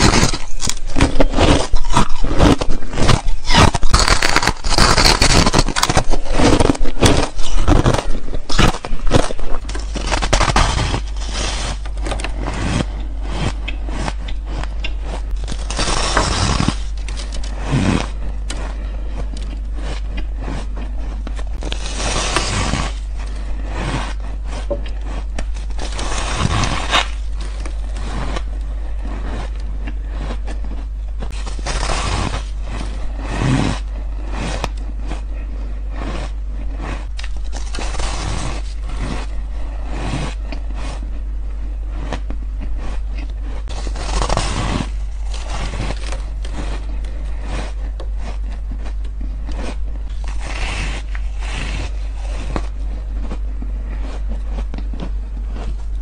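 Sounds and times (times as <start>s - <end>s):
ice being chewed and crunched: 0.0s - 56.0s
low hum: 0.0s - 56.0s.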